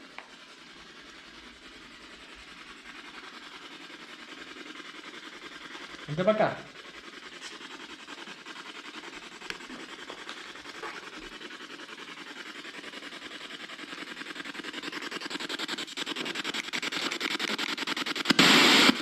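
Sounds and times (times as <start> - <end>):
pulsing static hiss: 0.0 - 19.0.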